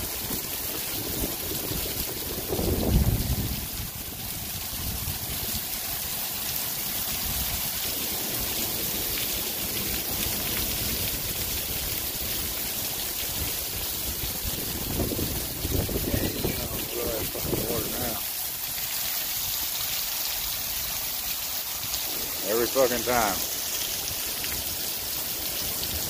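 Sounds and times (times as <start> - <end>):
heavy rain pouring: 0.0 - 26.0
water dripping off roof: 0.0 - 26.0.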